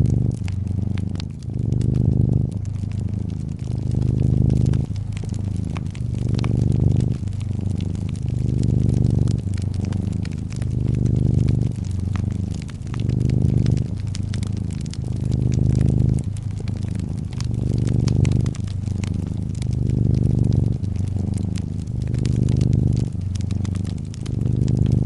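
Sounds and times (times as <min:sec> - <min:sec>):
cat purring: 0:00.0 - 0:25.0
wood fire crackling: 0:00.0 - 0:25.0.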